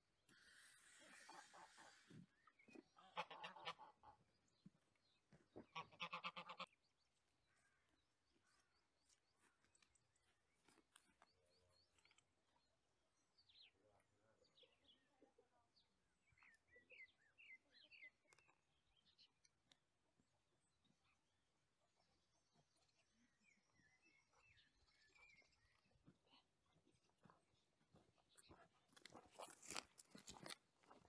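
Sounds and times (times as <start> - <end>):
faint bird chirps and calls: 0.4 - 29.0.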